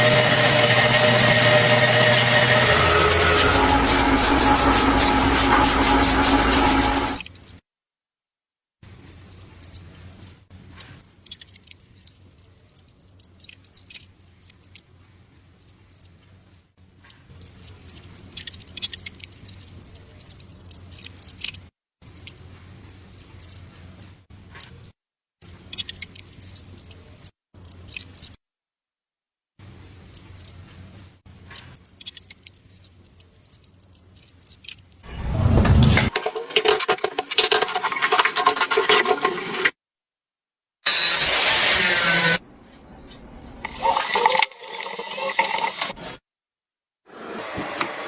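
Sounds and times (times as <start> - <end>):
clicks and scrapes of small parts: 0.0 - 7.6, 8.9 - 28.4, 29.6 - 39.8, 43.1 - 46.2.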